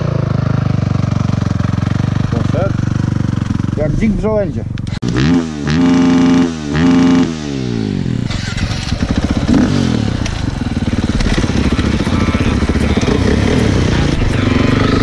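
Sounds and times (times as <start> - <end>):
dirt bike engine idling: 0.0 - 5.0, 5.6 - 15.0.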